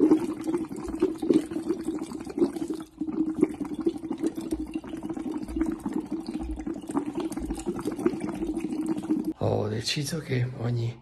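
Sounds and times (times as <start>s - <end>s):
bubbling through tube into water: 0.0s - 9.4s.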